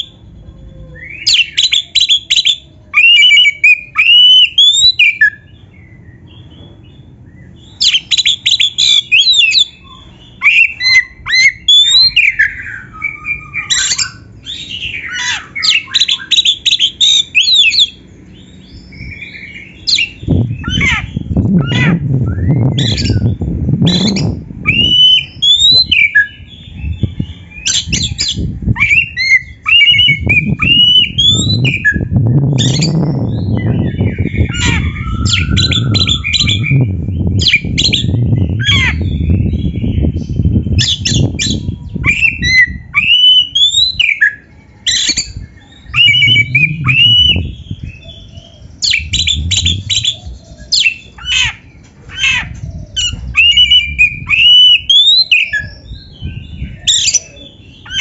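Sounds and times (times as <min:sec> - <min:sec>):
low rumbling background noise: 0:00.0 - 0:58.0
bird singing whistles: 0:00.9 - 0:06.4, 0:07.3 - 0:51.7, 0:52.7 - 0:58.0.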